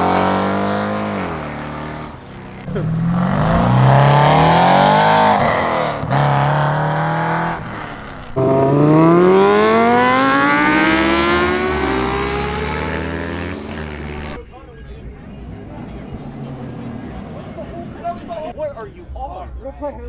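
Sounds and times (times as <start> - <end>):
car engine accelerating hard: 0.0 - 18.5.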